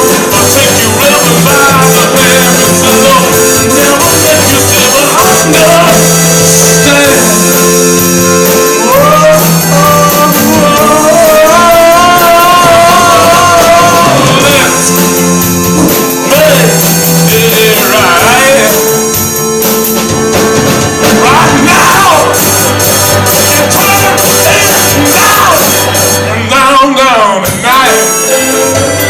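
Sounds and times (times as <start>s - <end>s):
loud rock music: 0.0s - 29.0s
person singing: 0.0s - 29.0s.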